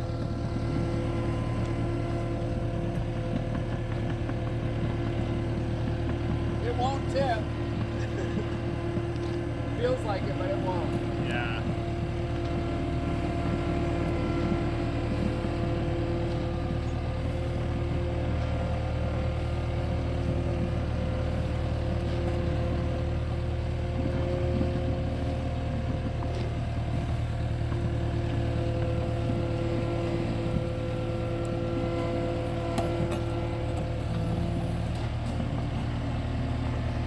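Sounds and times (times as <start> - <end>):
loader engine droning with whine: 0.0 - 37.0.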